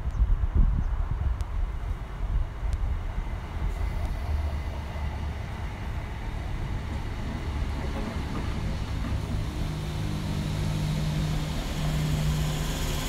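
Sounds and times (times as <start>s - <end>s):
electric train passing: 1.6s - 13.0s.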